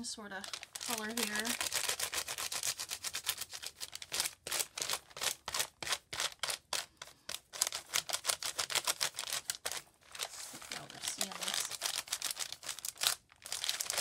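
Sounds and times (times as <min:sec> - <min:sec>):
paper crackling: 0:00.4 - 0:14.0
oil pastel scribbling on paper: 0:00.5 - 0:12.9.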